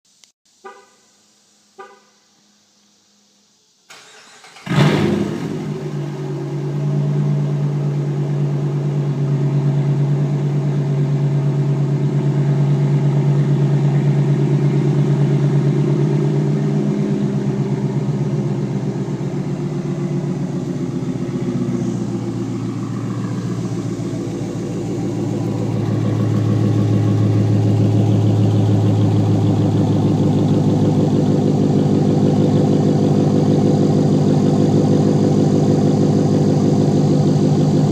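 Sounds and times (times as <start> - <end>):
car engine flaring and idling: 3.9 - 37.9.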